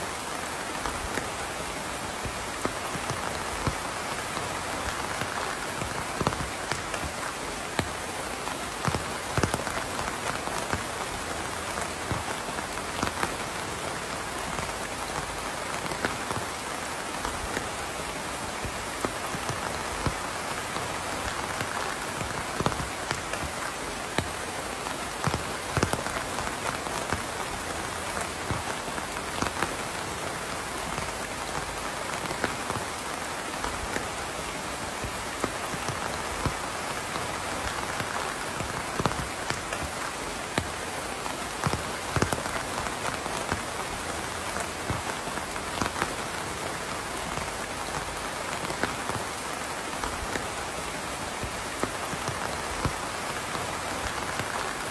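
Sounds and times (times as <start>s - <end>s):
close raindrops striking: 0.0s - 54.9s
steady rain hiss: 0.0s - 54.9s.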